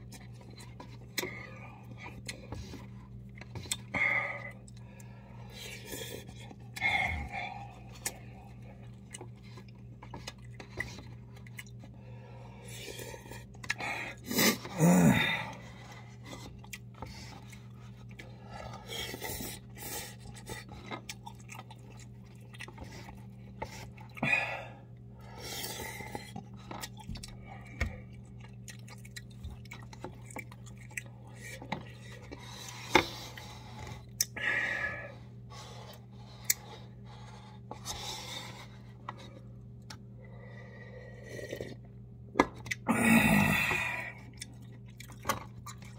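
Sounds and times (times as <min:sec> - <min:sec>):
chewing and slurping noodles: 0:00.0 - 0:24.3, 0:24.9 - 0:34.4, 0:35.1 - 0:42.1, 0:42.7 - 0:45.9
steady low hum: 0:00.0 - 0:45.9.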